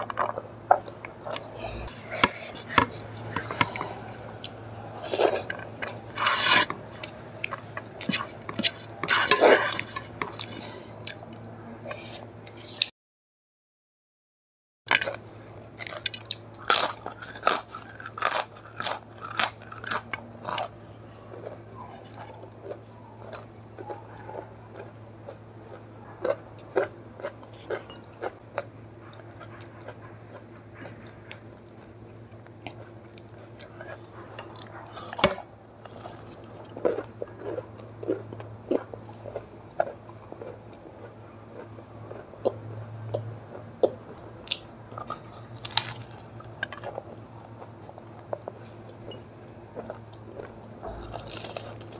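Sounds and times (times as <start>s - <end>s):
crunching and chewing food: 0.0s - 12.9s, 14.9s - 51.9s
low steady hum: 0.0s - 12.9s, 14.9s - 51.9s.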